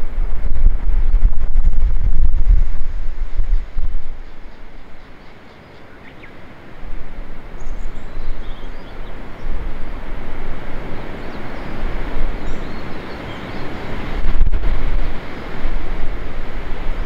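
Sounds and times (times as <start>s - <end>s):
gusty wind on microphone: 0.0s - 5.2s, 6.7s - 17.0s.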